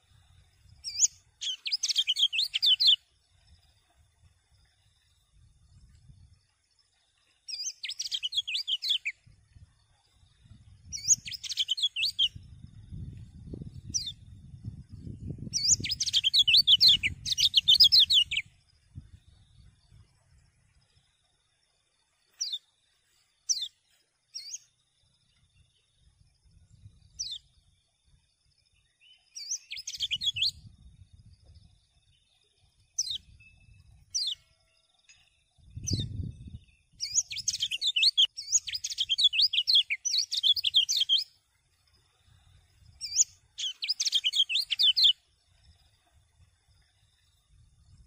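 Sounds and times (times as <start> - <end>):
bird chirps and twittering: 0.5 - 3.7, 7.5 - 9.4, 10.1 - 21.0, 22.2 - 27.7, 28.7 - 34.5, 35.1 - 48.0.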